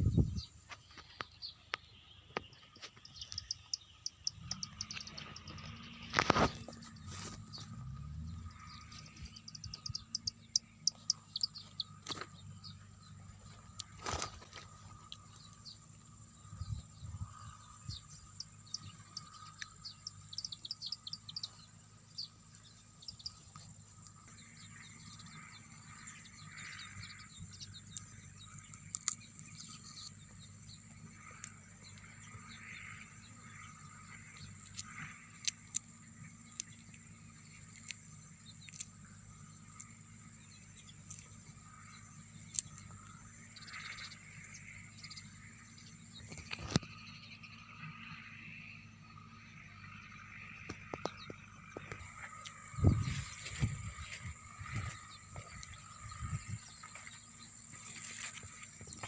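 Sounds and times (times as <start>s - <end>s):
birds chirping: 0.0s - 59.0s
high-pitched insect drone: 3.1s - 12.2s, 14.8s - 59.0s.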